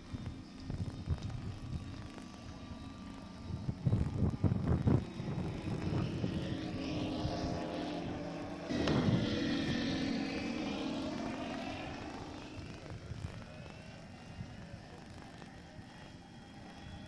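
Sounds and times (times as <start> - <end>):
wind buffeting microphone: 0.0 - 16.0
model plane engine drone: 0.0 - 17.0.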